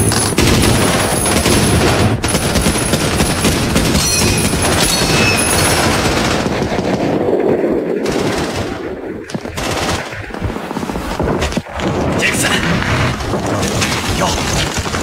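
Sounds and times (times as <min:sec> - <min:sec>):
machine-gun and rifle fire: 0:00.0 - 0:10.6, 0:11.8 - 0:15.0
steady low rumble: 0:00.0 - 0:15.0.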